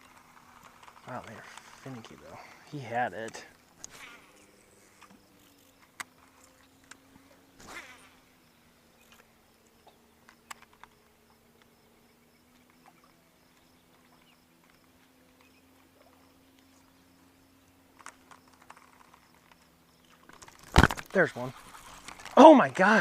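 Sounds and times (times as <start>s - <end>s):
faint clicks and ticks: 0.0s - 7.4s, 8.9s - 23.0s.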